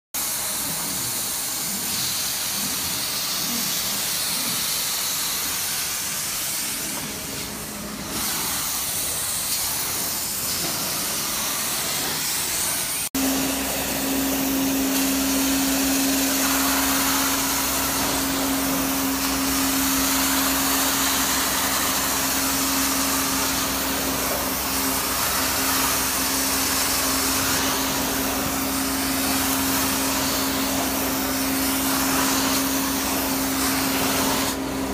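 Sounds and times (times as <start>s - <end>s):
extraction wand rushing hiss: 0.3s - 34.9s.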